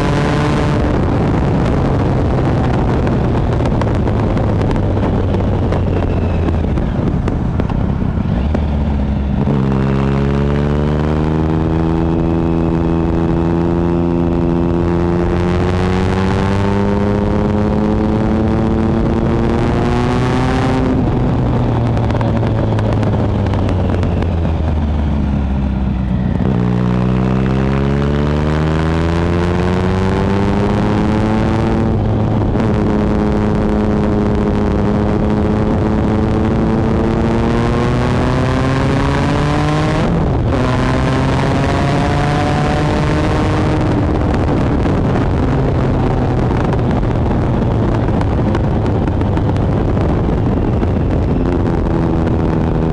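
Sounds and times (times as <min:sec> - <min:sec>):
motorcycle engine revving: 0:00.0 - 0:52.9
wind on microphone: 0:00.0 - 0:52.9.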